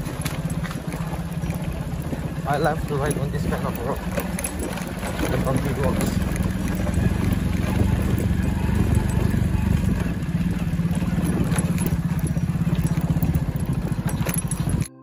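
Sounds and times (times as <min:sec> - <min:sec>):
motorcycle engine running: 0:00.0 - 0:15.0
rattling from bumps: 0:00.0 - 0:15.0.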